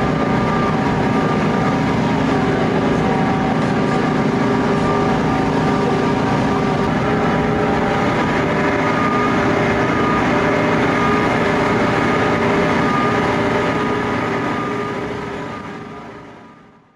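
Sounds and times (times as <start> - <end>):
held whining tones: 0.0 - 16.3
train engine and track noise: 0.0 - 16.9.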